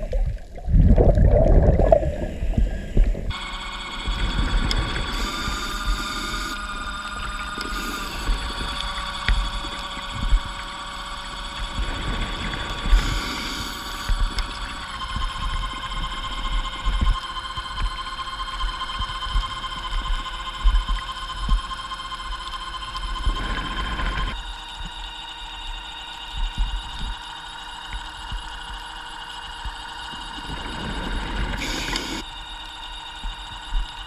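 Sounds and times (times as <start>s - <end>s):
underwater motor whining: 0.0s - 34.0s.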